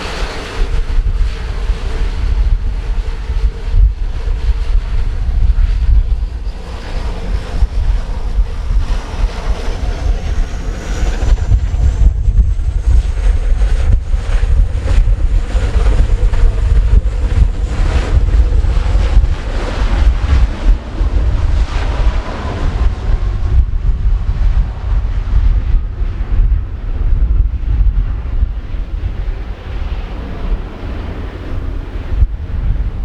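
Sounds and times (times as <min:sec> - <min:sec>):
faint high whine: 0:00.0 - 0:33.0
strong wind buffeting microphone: 0:00.0 - 0:33.0.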